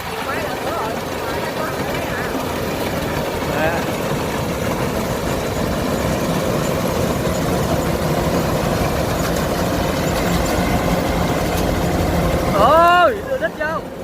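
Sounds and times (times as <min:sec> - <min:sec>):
combine harvester diesel drone: 0:00.0 - 0:14.0.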